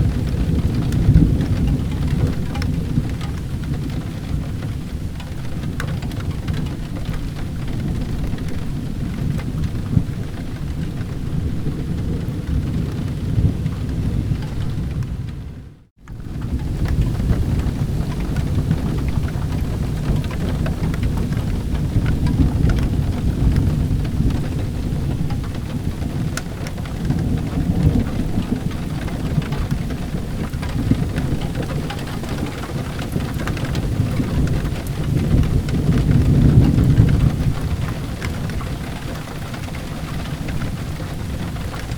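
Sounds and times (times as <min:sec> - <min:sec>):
rolling thunder rumble: 0:00.0 - 0:41.9
steady rain falling: 0:00.0 - 0:41.9.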